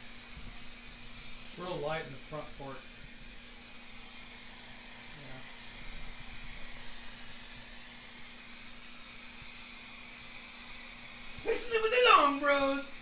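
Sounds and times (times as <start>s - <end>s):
spray paint can hissing: 0.0s - 13.0s.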